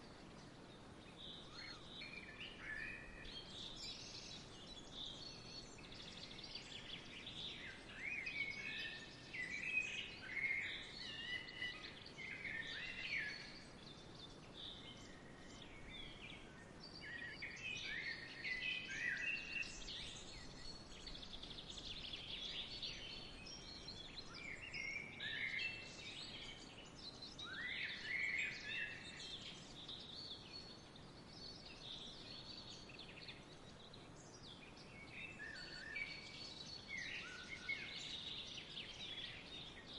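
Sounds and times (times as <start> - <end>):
faint background hiss: 0.0 - 39.9
songbirds singing and chirping: 0.0 - 39.9.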